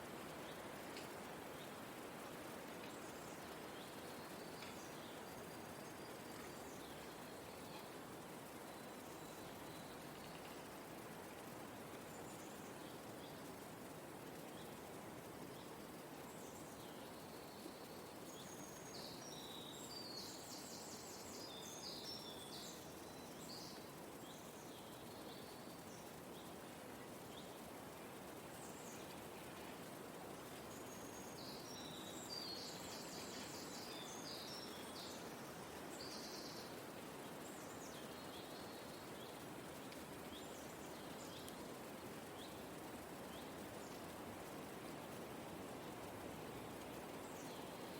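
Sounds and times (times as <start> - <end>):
soft breeze hiss: 0.0 - 47.9
small birds chirping: 2.8 - 47.9.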